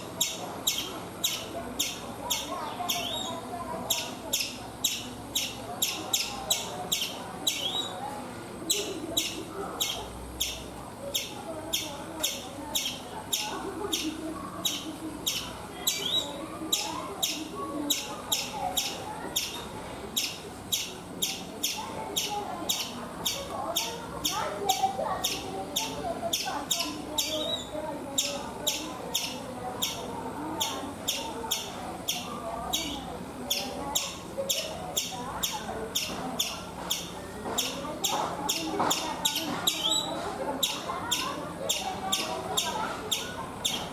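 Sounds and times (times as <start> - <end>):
squirrel chirping: 0.0 - 8.1, 8.7 - 43.9.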